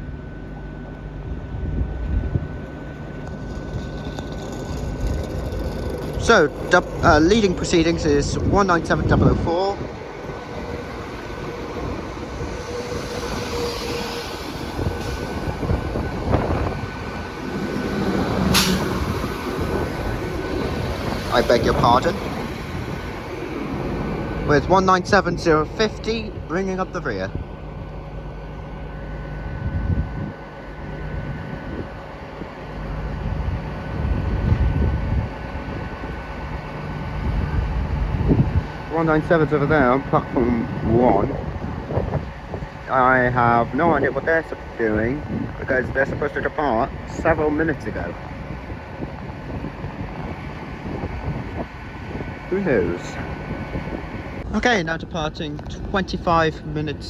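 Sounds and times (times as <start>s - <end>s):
diesel train rumbling with whine: 0.0s - 57.0s.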